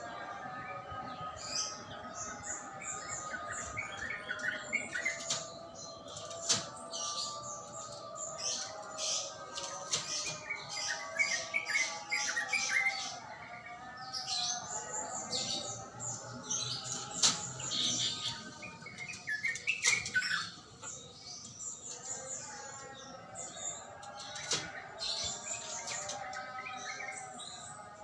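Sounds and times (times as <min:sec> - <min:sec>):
bird chirping song: 0:00.0 - 0:28.0.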